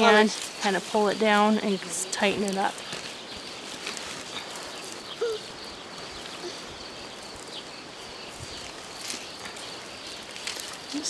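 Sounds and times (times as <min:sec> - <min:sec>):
twine rustling and ticking: 0:00.0 - 0:11.0.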